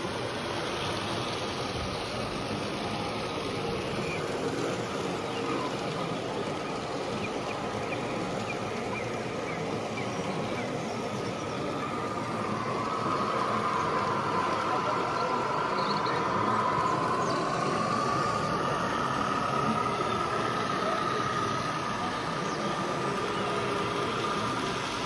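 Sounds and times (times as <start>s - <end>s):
faint indistinct voices: 0.0s - 25.0s
hall background noise: 0.0s - 25.0s.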